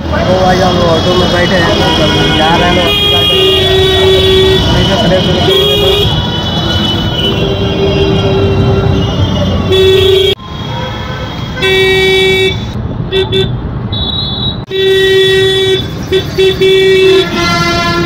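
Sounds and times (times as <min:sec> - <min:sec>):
engine and road rumble: 0:00.0 - 0:18.0
vehicle horns honking: 0:00.7 - 0:18.0.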